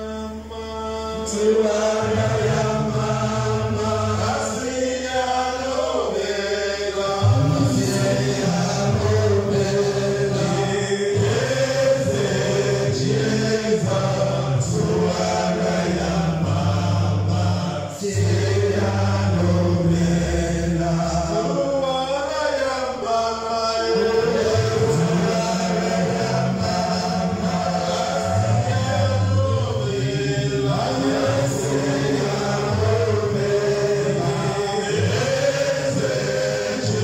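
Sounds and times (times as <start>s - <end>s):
voices singing a chant-like song: 0.0s - 37.0s.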